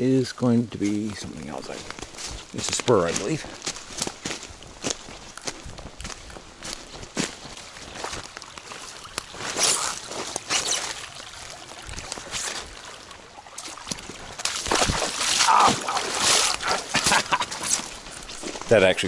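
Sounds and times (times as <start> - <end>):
footsteps splashing through stream: 0.5 - 19.0.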